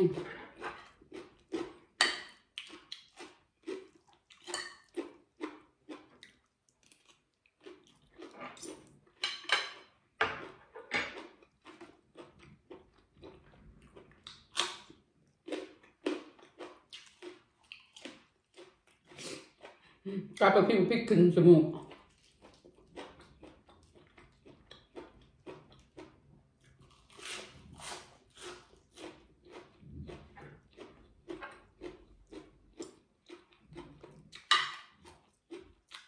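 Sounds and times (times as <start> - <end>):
chewing with wet clicks: 0.6 - 20.0, 21.8 - 27.2, 28.4 - 36.0.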